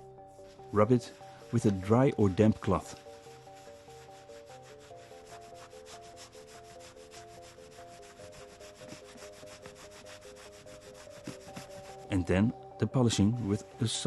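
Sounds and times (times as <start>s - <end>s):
cloth scrubbing metal plate: 0.4s - 12.1s.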